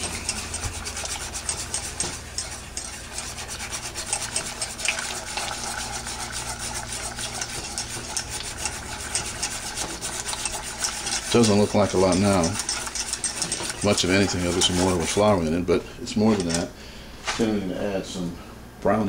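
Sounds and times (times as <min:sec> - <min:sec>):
whisk scraping a saucepan: 0:00.0 - 0:16.8.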